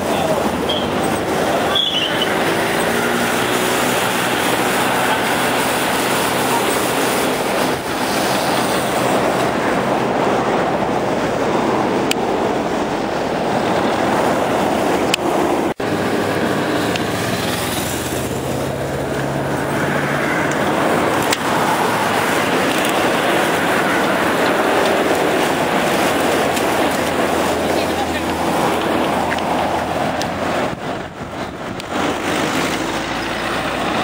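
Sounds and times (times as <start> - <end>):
road noise: 0.0 - 34.0
wind on microphone: 0.0 - 34.0.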